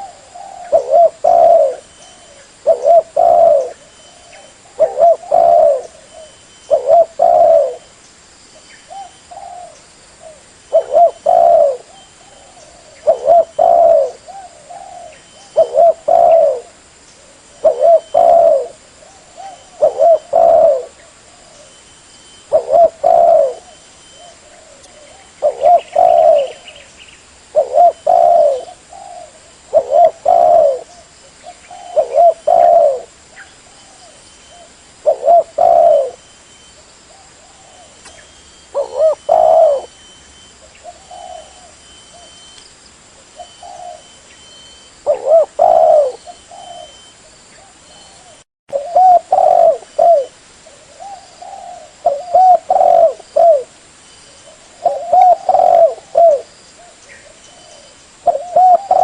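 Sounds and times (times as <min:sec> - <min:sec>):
dove cooing: 0:00.0 - 0:08.0, 0:08.9 - 0:26.9, 0:27.5 - 0:36.4, 0:37.1 - 0:42.5, 0:43.2 - 0:59.0.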